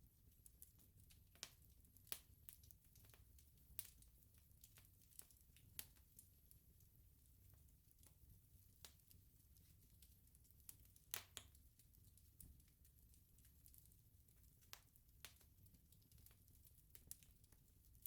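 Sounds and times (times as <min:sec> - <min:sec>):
bonfire crackling and popping: 0:00.2 - 0:18.0.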